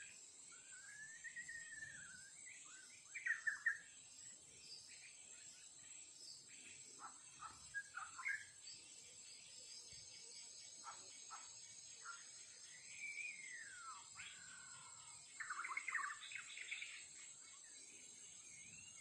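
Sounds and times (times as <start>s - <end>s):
songbird whistles and chirps: 0.0s - 4.0s, 6.2s - 19.0s
high-pitched insect drone: 0.0s - 19.0s.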